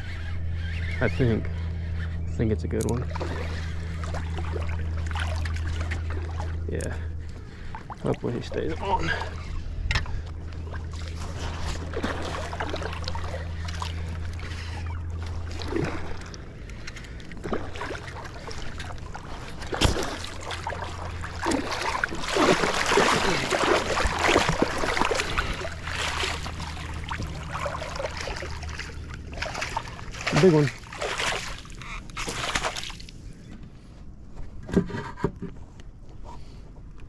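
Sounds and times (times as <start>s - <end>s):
water splashing and sloshing: 0.0s - 34.1s
steady low hum: 0.0s - 37.0s.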